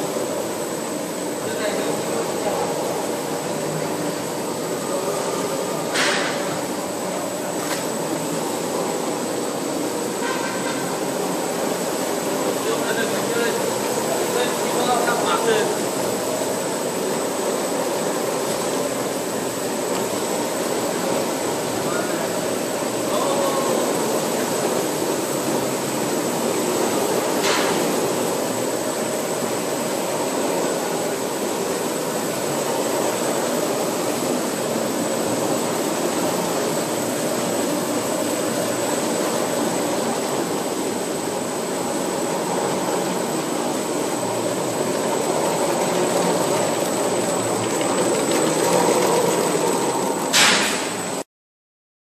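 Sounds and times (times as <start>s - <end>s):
machinery hum: 0.0s - 51.3s.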